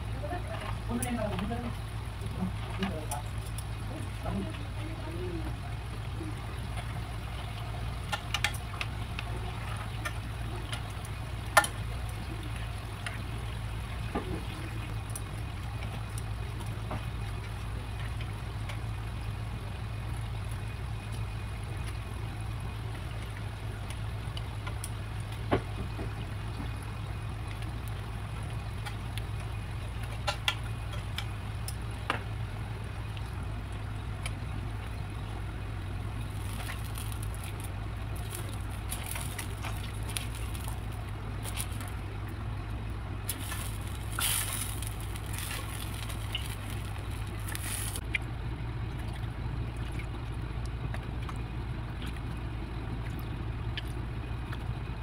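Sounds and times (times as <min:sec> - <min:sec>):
low hum: 0:00.0 - 0:55.0
food deep-frying in hot oil: 0:00.8 - 0:48.1.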